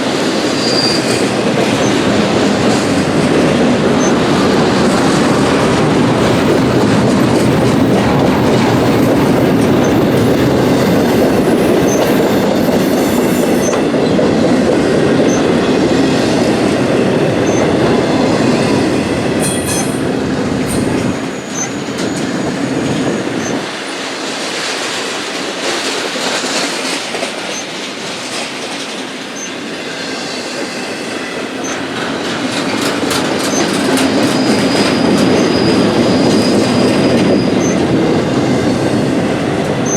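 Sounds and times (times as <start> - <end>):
freight train wheels clattering on rails: 0.0 - 39.9.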